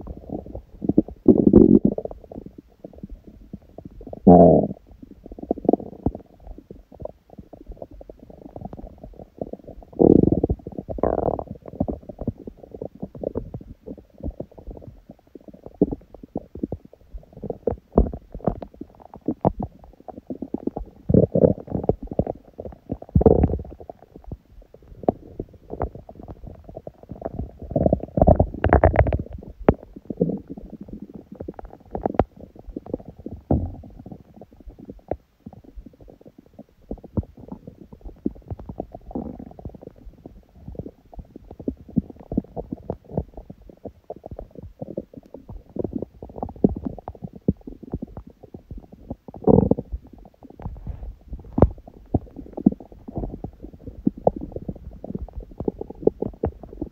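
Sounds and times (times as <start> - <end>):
stomach growling: 0.0 - 56.9.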